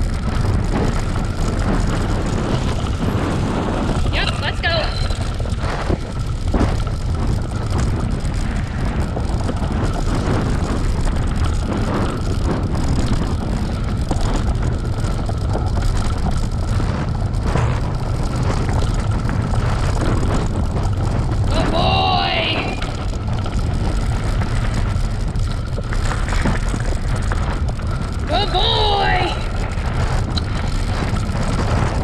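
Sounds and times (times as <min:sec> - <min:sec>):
bicycle tyres rumbling on trail: 0:00.0 - 0:32.0
wind buffeting microphone: 0:00.0 - 0:32.0.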